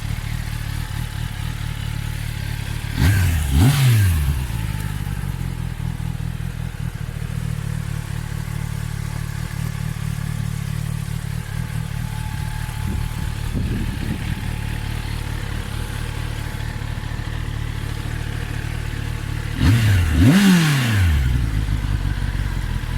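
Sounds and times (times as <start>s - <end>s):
motorcycle engine idling and revving: 0.0s - 22.9s.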